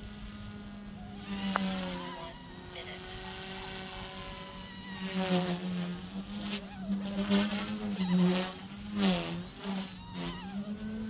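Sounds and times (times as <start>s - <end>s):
rc helicopter rotors buzzing: 0.0s - 11.0s.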